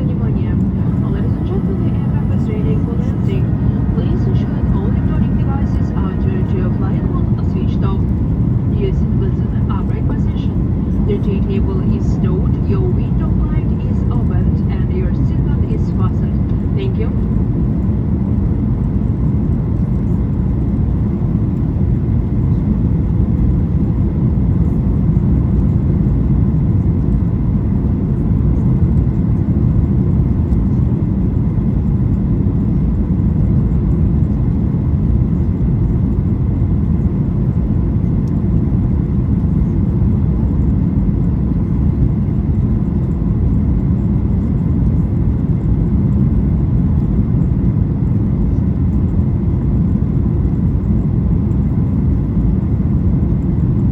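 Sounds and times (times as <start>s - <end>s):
airplane cabin rumble: 0.0s - 53.9s.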